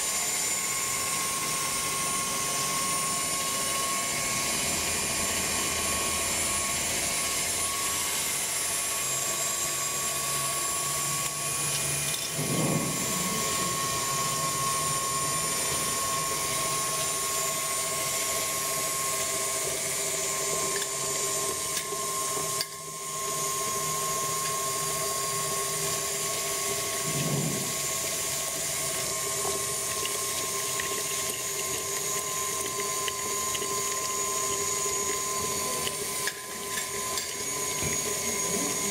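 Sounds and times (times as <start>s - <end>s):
stand mixer motor whine: 0.0s - 38.9s.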